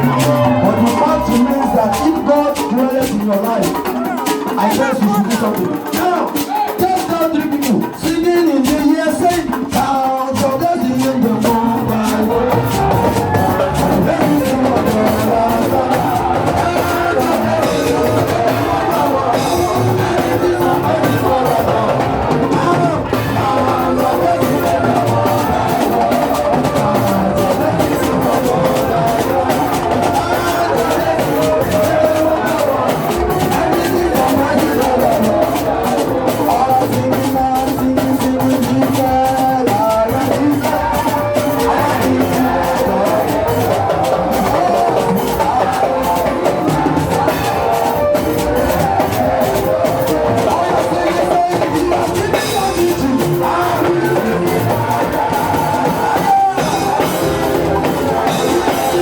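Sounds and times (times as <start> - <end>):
drum kit and percussion beat: 0.0 - 59.0
voices singing praise music: 0.0 - 59.0.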